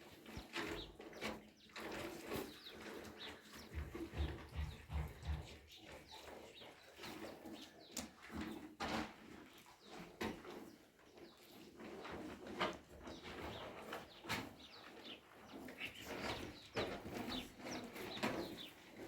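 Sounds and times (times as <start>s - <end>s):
birds: 0.0s - 19.0s.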